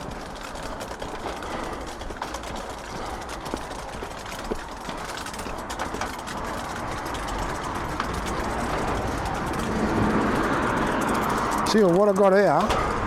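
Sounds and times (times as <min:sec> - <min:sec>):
road vehicle engine and tyre rush: 0:00.0 - 0:13.0.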